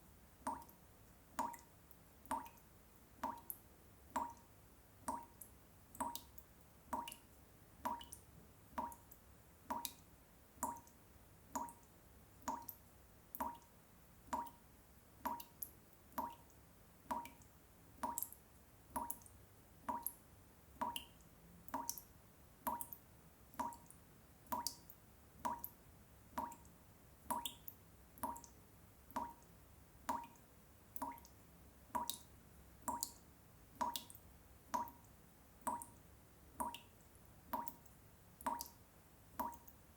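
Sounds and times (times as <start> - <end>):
water dripping: 0.4 - 39.9.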